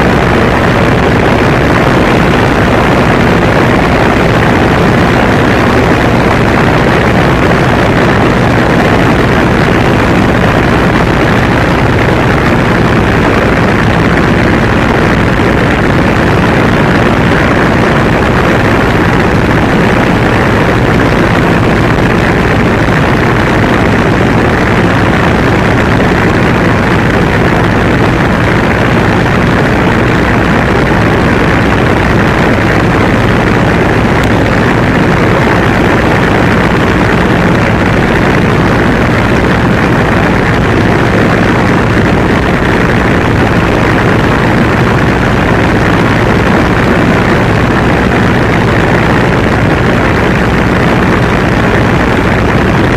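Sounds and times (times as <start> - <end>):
aircraft engine and propeller: 0.0 - 52.9
wind rushing over microphone: 0.0 - 52.9.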